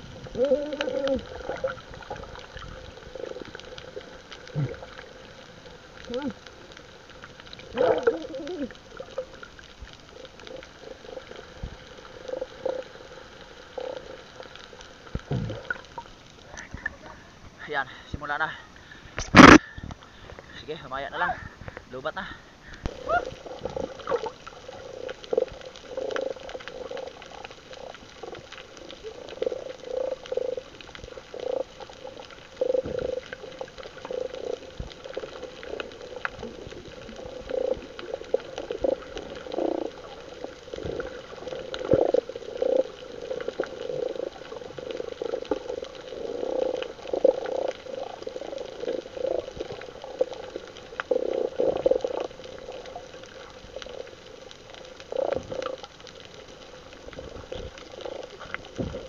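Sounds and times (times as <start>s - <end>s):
water splashing and gurgling: 0.0s - 17.4s, 19.2s - 20.3s, 22.8s - 59.0s.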